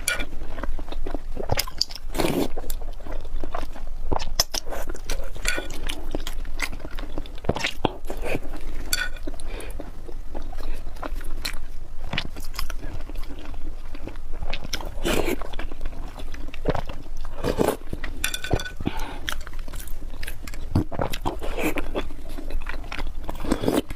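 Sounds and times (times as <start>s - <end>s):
person chewing food: 0.0s - 23.9s.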